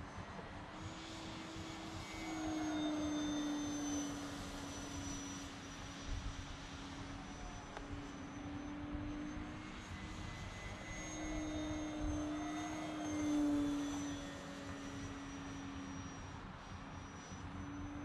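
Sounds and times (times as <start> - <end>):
model airplane motor droning: 0.0 - 18.0.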